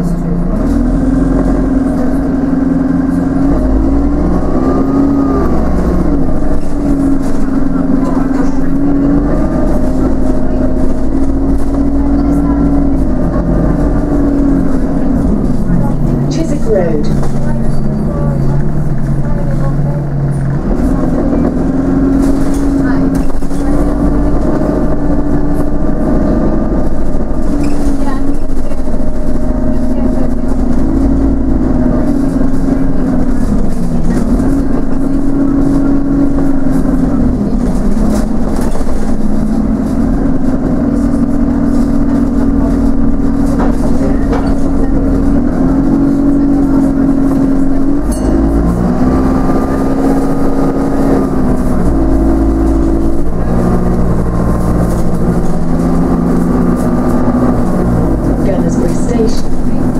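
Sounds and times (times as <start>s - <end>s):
bus diesel engine rumbling and whining: 0.0s - 59.9s.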